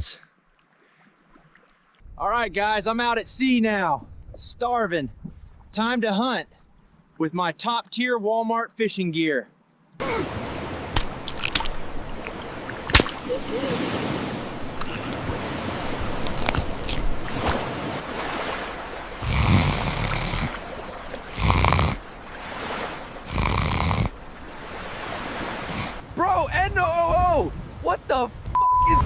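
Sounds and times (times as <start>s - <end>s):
sea and wind noise: 1.1s - 7.2s, 10.0s - 29.0s.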